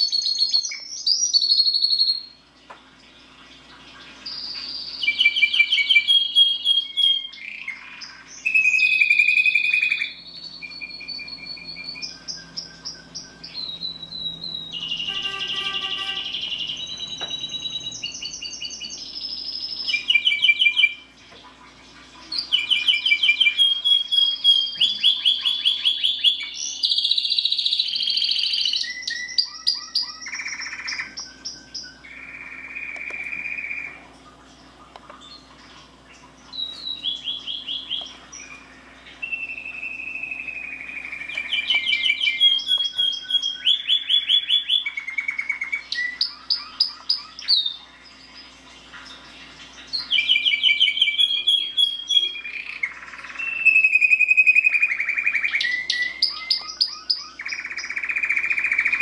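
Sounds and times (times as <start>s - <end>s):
canary singing trills: 0.0s - 2.5s, 3.1s - 21.2s, 22.2s - 34.0s, 35.2s - 59.0s.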